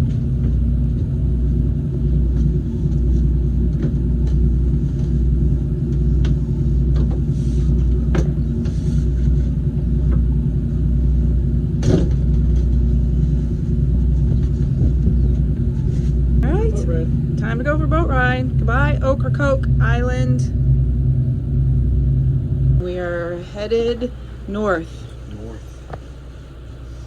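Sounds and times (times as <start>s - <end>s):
boat engines idling: 0.0s - 27.0s.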